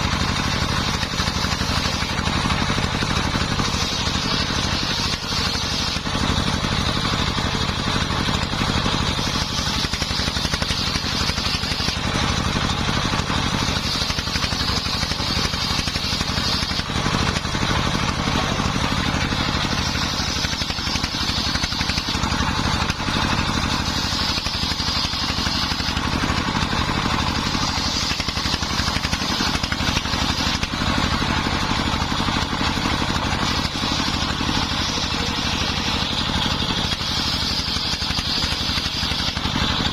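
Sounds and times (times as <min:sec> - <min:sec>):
circular saw cutting wood: 0:00.0 - 0:39.9
diesel engine running: 0:00.0 - 0:39.9.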